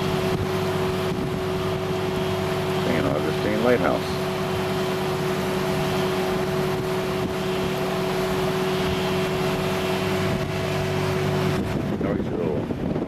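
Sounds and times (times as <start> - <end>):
boat engine droning: 0.0 - 13.0
rushing water noise: 0.0 - 13.0.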